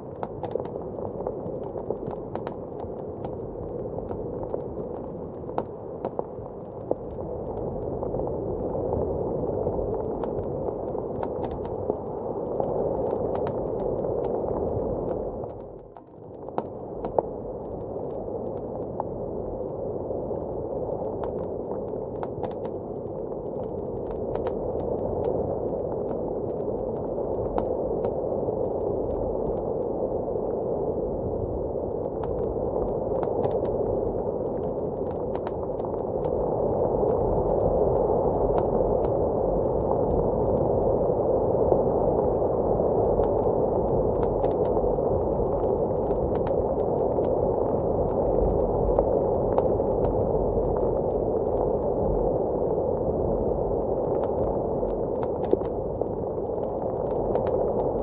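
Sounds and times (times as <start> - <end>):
muffled blizzard wind rushing: 0.0 - 58.0.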